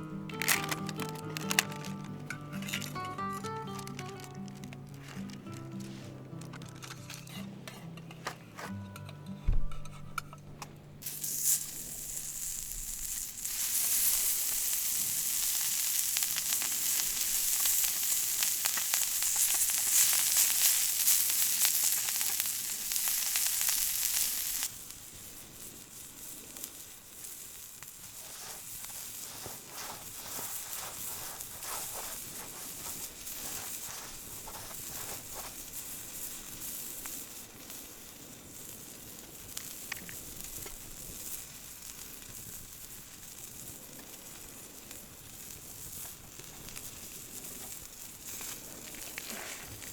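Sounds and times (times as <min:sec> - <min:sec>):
food sizzling in a pan: 0:00.0 - 0:07.4, 0:11.0 - 0:49.9
small crackles: 0:00.0 - 0:08.8, 0:09.8 - 0:49.9.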